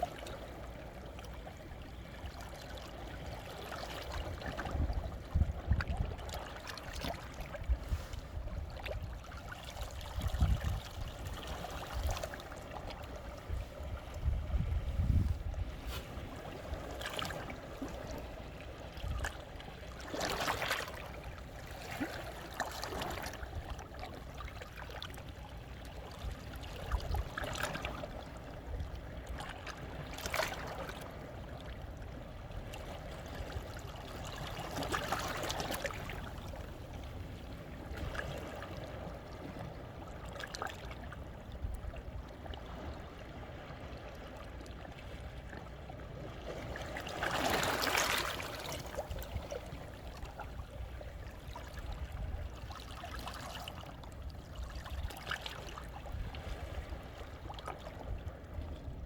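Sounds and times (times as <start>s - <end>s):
wave splash: 0.0s - 31.8s, 32.6s - 58.7s.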